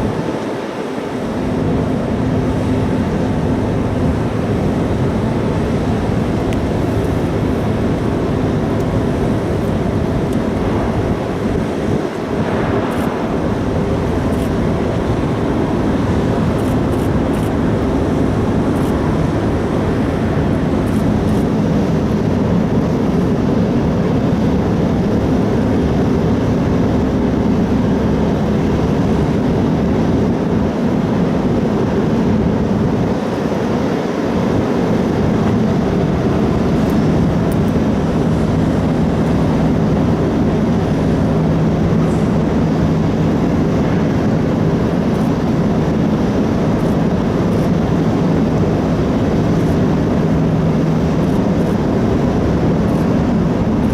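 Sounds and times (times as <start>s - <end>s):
continuous rushing noise: 0.0s - 53.9s
ferry engines droning: 1.0s - 53.9s.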